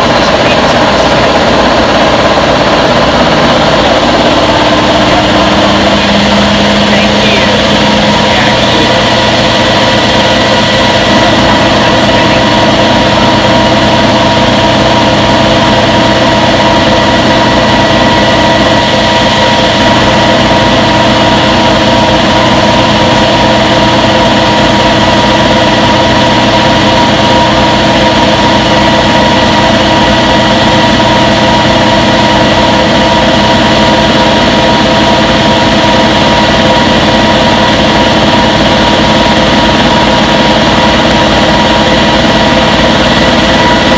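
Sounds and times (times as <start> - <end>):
washing machine spin cycle whir: 0.0 - 43.9.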